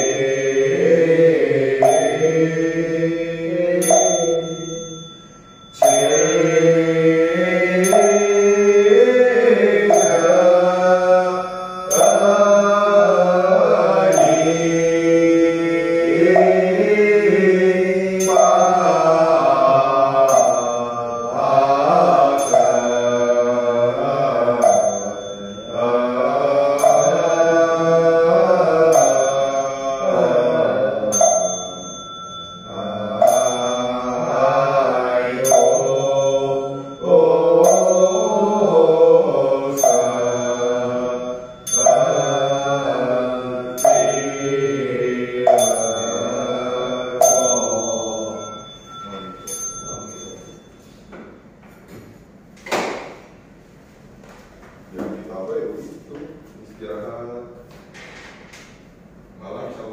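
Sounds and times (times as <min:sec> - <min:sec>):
voices chanting together: 0:00.0 - 0:50.5
small bell ringing: 0:00.0 - 0:52.3.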